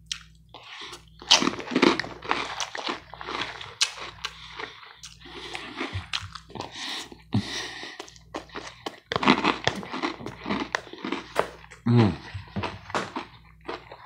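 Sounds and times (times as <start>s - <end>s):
person chewing crunchy salad: 0.0s - 14.0s.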